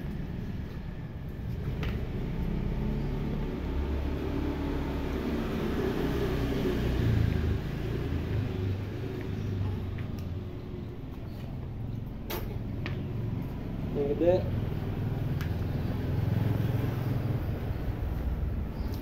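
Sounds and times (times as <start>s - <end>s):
motor scooter engine passing: 0.2s - 18.9s.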